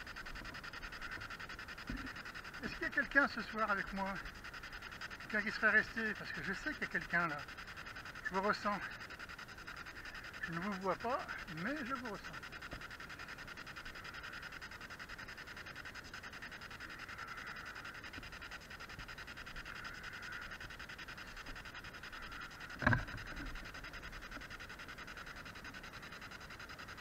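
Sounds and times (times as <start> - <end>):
pulsing radio static: 0.0 - 27.0.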